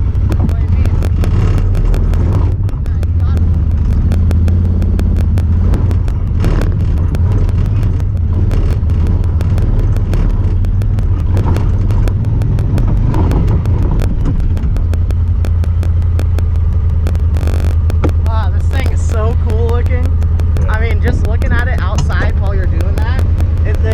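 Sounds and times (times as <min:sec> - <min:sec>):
rapid camera ticking: 0:00.0 - 0:23.9
vehicle engine droning: 0:00.0 - 0:23.9.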